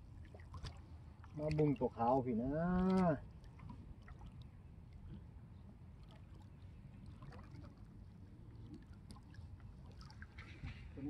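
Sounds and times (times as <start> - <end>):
water lapping at shallows: 0.0 - 11.0.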